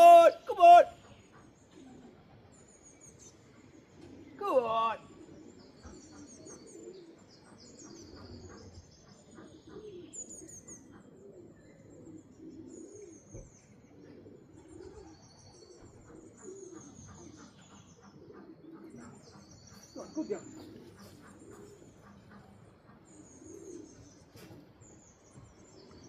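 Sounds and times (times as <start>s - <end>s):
pigeons cooing: 0.0s - 26.0s
small birds chirping: 0.0s - 26.0s.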